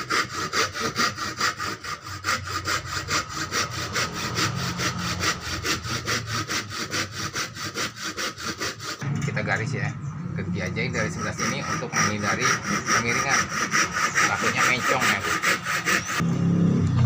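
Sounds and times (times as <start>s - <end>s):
hand saw cutting wood: 0.0s - 9.0s, 10.9s - 16.2s.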